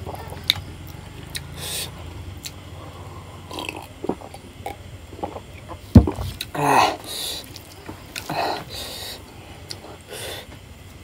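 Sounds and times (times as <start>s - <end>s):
man chewing food: 0.0s - 10.6s.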